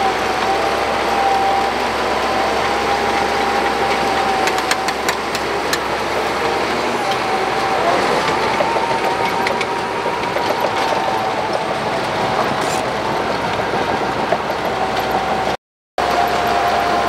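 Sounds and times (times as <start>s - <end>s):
bulldozer diesel engine with whine: 0.0s - 17.0s
steel tracks clanking: 0.0s - 17.0s.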